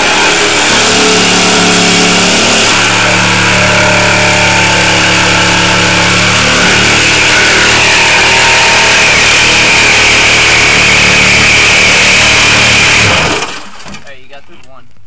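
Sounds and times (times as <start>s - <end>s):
power tool cutting sheet metal: 0.0s - 13.8s
motor hum: 0.0s - 14.0s.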